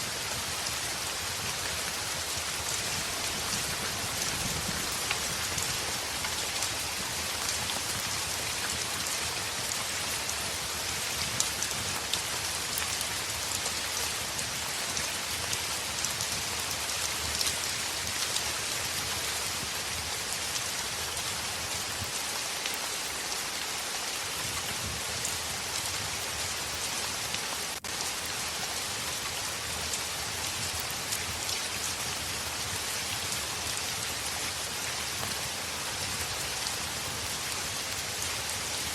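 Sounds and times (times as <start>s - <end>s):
heavy rain on a window: 0.0s - 38.9s.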